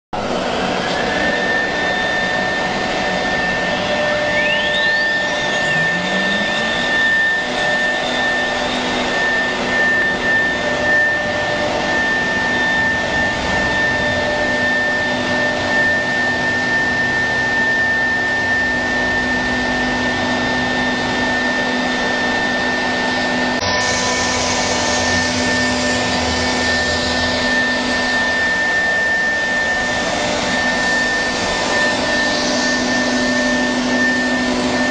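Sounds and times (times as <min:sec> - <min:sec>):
cnc spindle whine: 0:00.2 - 0:34.9
motor noise: 0:00.2 - 0:34.9.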